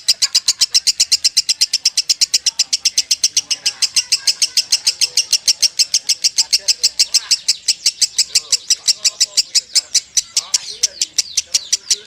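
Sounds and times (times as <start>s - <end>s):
lovebird trilling: 0.0s - 12.0s.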